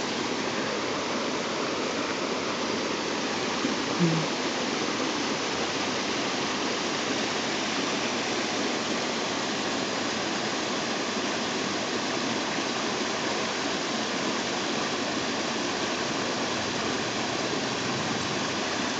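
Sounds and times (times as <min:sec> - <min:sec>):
creek rushing over rocks: 0:00.0 - 0:18.9.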